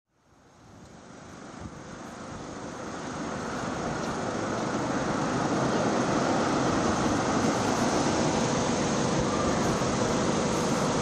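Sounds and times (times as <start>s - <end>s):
helicopter turbines and rotors running: 1.6s - 11.0s.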